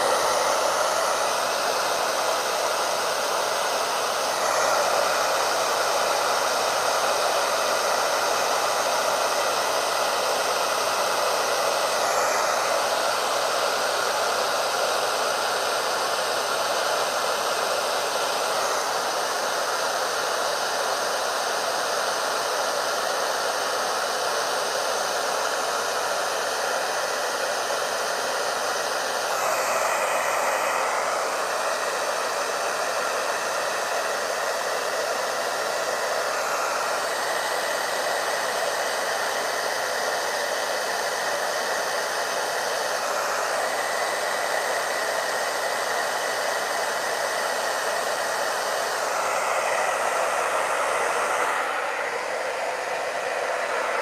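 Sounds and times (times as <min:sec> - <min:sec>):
hair dryer blowing air: 0:00.0 - 0:54.0.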